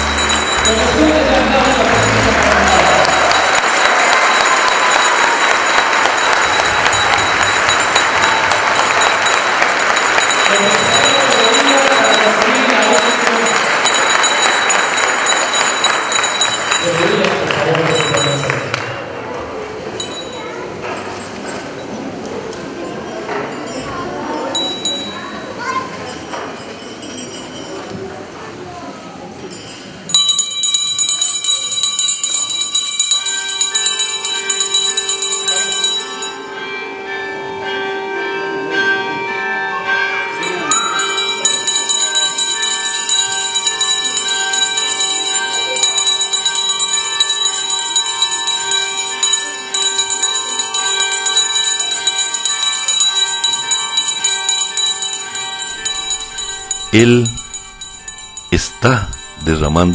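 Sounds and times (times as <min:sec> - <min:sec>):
hand bells jingling: 0:00.0 - 0:18.8, 0:23.1 - 0:27.9, 0:29.4 - 0:36.5, 0:40.3 - 0:59.9.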